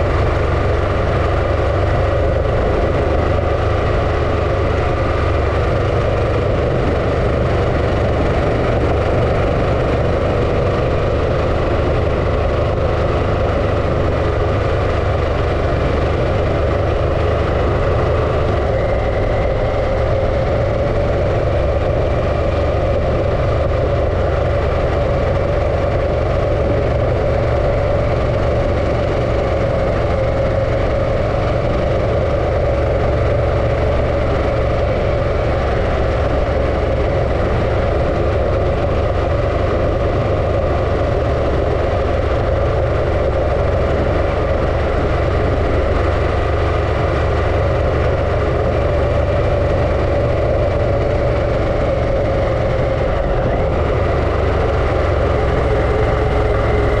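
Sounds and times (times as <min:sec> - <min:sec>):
low rumble: 0:00.0 - 0:57.0
motorcycle engine running: 0:00.0 - 0:57.0.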